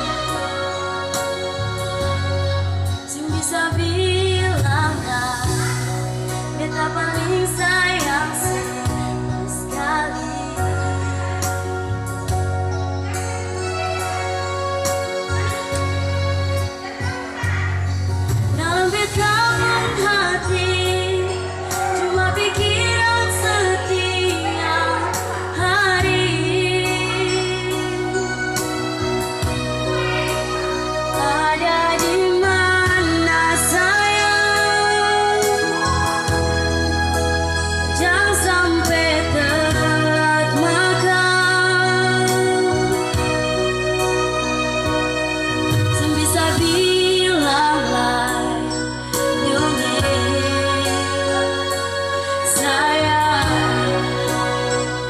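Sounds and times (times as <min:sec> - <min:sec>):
woman singing with vibrato: 0:00.0 - 0:11.9, 0:18.5 - 0:43.9, 0:45.4 - 0:55.0
electronic keyboard accompaniment: 0:00.0 - 0:55.0.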